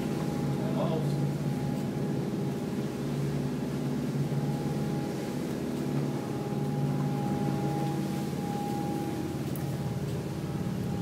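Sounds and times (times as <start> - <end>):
thin steady whine: 0.0 - 11.0
yacht engines low drone: 0.0 - 11.0.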